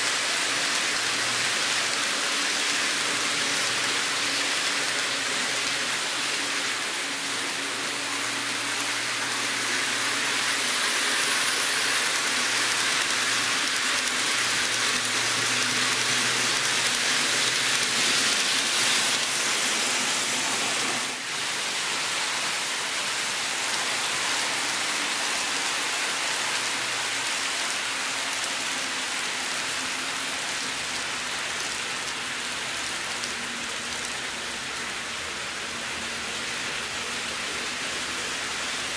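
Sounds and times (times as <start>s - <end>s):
model train wheels whirring on rail: 0.0s - 38.9s.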